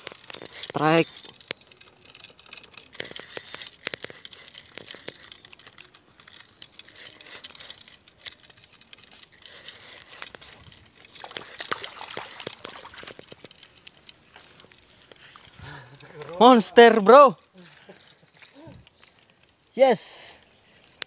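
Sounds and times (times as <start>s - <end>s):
fishing reel clicking and rattling: 0.0s - 21.0s.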